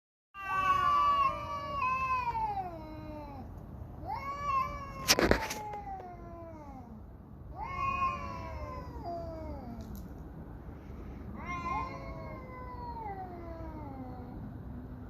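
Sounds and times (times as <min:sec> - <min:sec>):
cats yowling: 0:00.4 - 0:10.1, 0:11.3 - 0:14.5.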